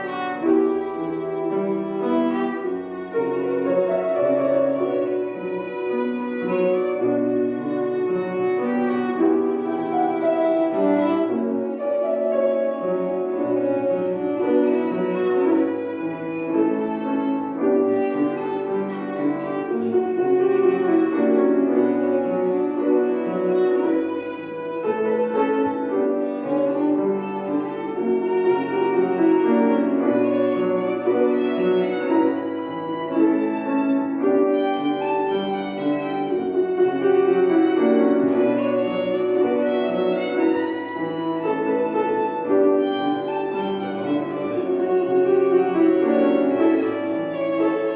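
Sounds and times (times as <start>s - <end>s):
piano accompaniment: 0.0s - 47.9s
violin melody: 0.0s - 47.9s.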